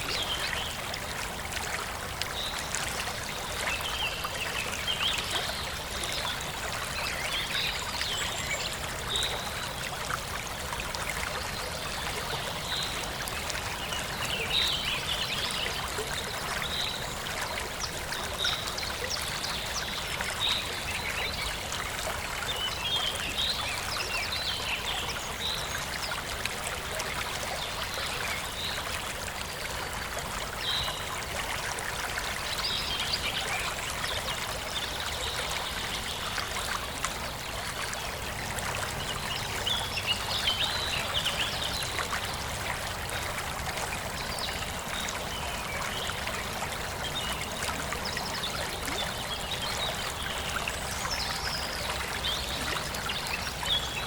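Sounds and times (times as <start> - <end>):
stream flowing and trickling: 0.0 - 54.0.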